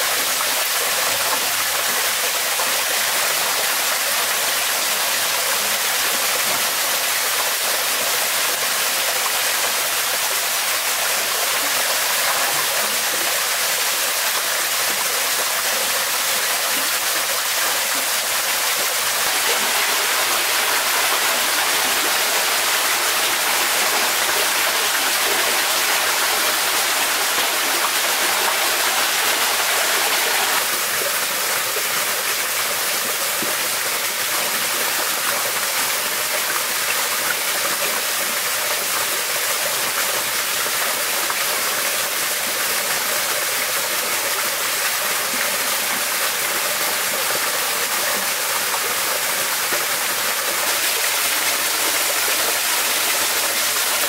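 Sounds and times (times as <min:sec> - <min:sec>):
stream and waterfall rushing: 0:00.0 - 0:54.0.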